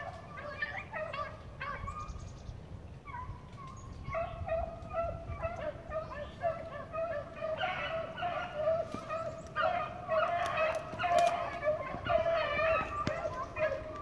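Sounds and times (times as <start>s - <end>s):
hounds baying: 0.0s - 2.1s, 3.0s - 14.0s.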